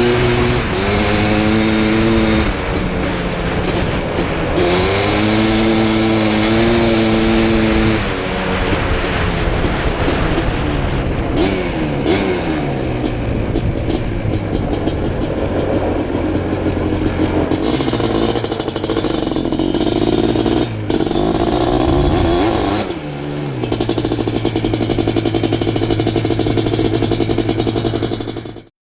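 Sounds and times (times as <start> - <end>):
two-stroke engine revving: 0.0 - 28.7.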